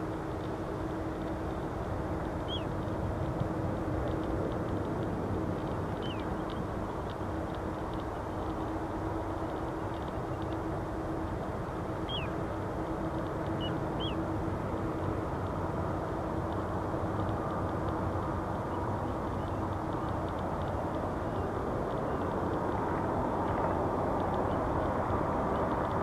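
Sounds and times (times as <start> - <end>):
distant jet engine rumble: 0.0 - 26.0.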